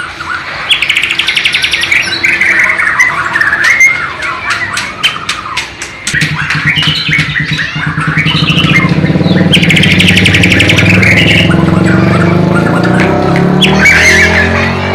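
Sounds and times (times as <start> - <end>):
bird singing chirps and whistles: 0.0 - 14.9
fast buzzy bird trill: 0.2 - 14.8.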